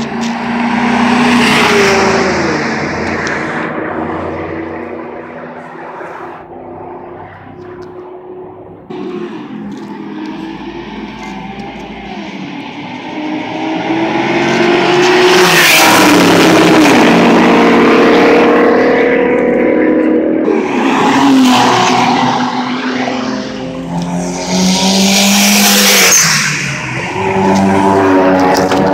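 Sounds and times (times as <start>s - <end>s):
racing cars speeding past: 0.0s - 28.9s.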